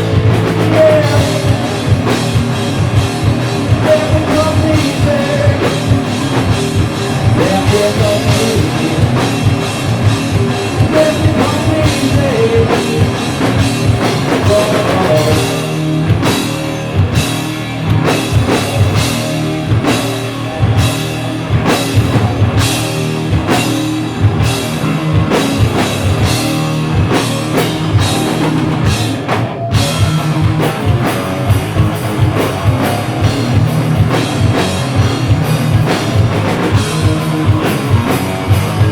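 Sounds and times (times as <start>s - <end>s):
bass guitar: 0.0s - 38.9s
distorted electric guitar: 0.0s - 38.9s
pounding drum kit: 0.0s - 38.9s.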